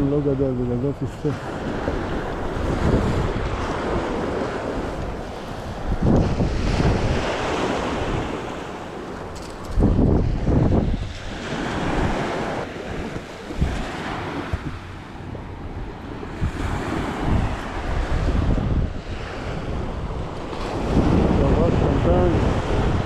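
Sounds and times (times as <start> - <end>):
small waves washing on beach: 0.0 - 23.0
wind buffeting microphone: 0.0 - 23.0.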